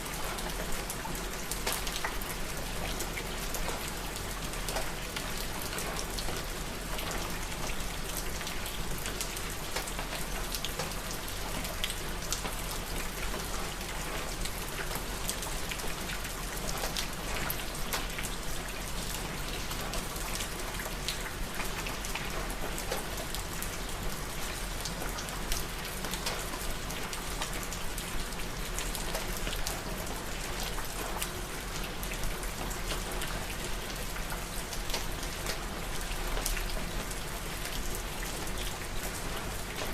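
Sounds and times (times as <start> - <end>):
raindrops pattering on a surface: 0.0 - 39.9
steady rain falling: 0.0 - 39.9.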